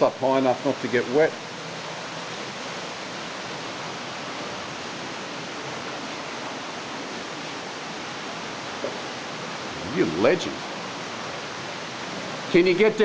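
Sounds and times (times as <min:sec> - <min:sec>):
waterfall into rock pool: 0:00.0 - 0:13.0.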